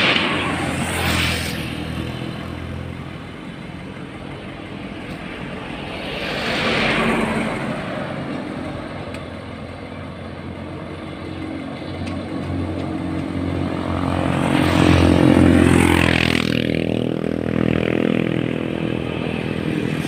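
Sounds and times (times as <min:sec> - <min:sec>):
low engine drone: 0:00.0 - 0:20.0
vehicles passing: 0:00.0 - 0:20.0.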